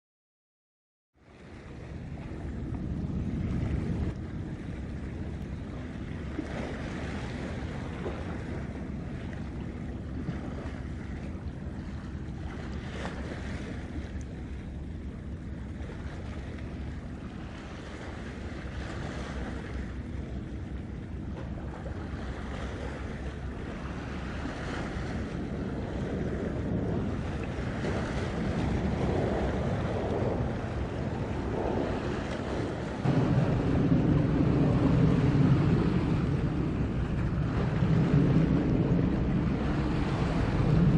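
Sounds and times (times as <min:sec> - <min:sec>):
ship engine drone: 0:01.2 - 0:40.9
water wash: 0:01.2 - 0:40.9
wind on microphone: 0:01.2 - 0:40.9.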